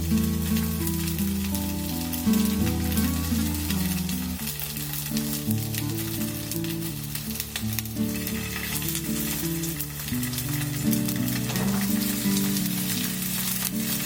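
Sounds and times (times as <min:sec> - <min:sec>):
food sizzling in a pan: 0:00.0 - 0:14.0
soft background music: 0:00.0 - 0:14.0.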